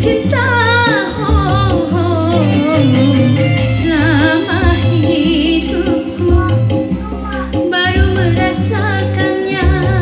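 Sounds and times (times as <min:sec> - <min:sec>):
backing track with pulsing bass: 0:00.0 - 0:10.0
woman singing into microphone: 0:00.0 - 0:10.0.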